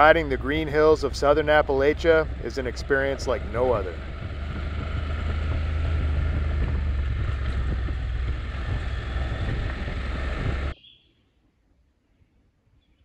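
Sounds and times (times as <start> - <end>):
motorcycle engine drone: 0.0 - 10.8
wind rushing over microphone: 0.0 - 10.8.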